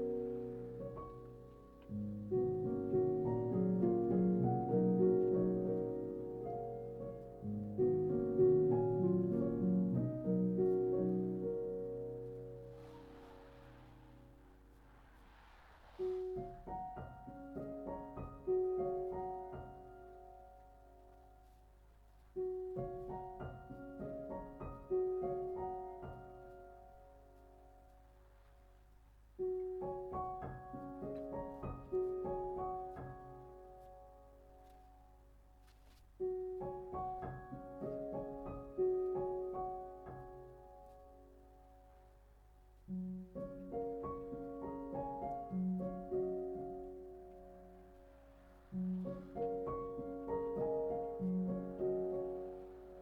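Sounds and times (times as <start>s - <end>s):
soft piano music: 0.0s - 53.0s.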